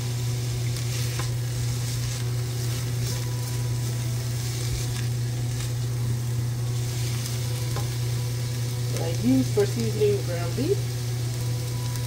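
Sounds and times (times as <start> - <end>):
onions sizzling: 0.0 - 12.0
steady low hum: 0.0 - 12.0.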